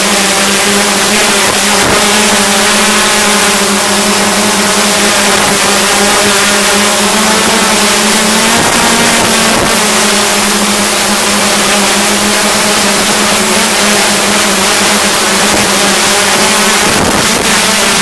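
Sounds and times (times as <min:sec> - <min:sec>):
drone motors and propellers humming: 0:00.0 - 0:18.0
wind: 0:00.0 - 0:18.0.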